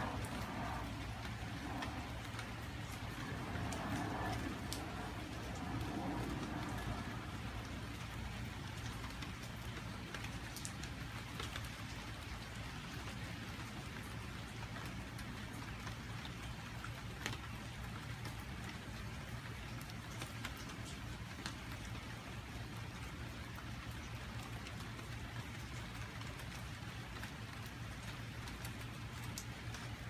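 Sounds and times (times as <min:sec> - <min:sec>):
rain on a wooden deck: 0:00.0 - 0:30.0
single raindrops ticking: 0:00.0 - 0:30.0.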